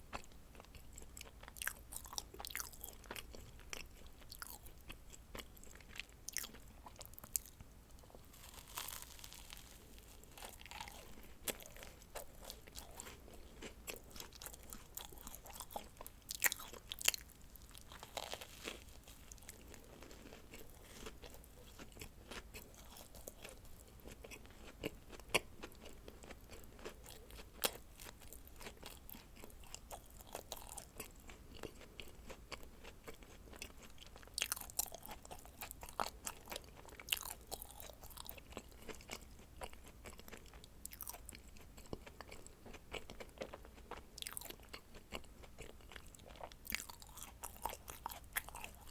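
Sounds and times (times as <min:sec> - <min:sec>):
chewing crunchy cookies: 0:00.0 - 0:48.9.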